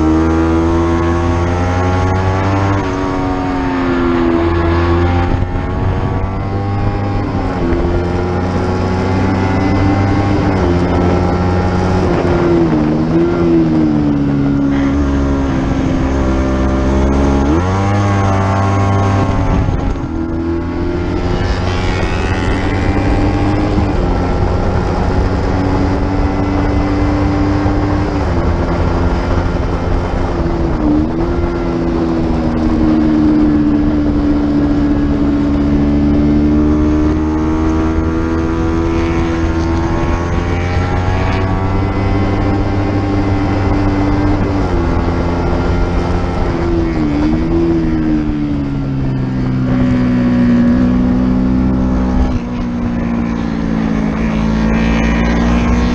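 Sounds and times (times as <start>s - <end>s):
racing motorcycle engine at high revs: 0.0s - 55.9s
wind rushing: 0.0s - 55.9s.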